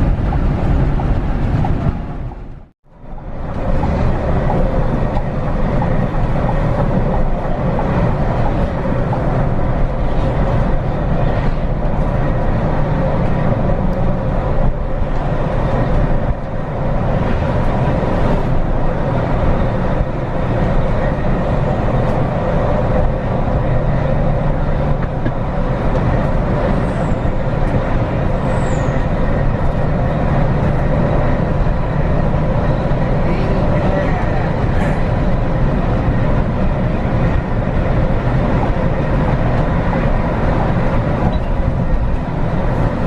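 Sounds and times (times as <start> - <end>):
bus engine hum: 0.0 - 43.0
road noise: 0.0 - 43.0.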